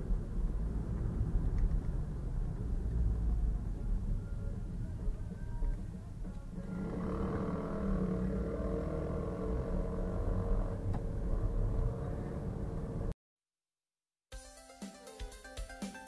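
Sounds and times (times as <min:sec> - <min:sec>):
car driving rumble: 0:00.0 - 0:13.2.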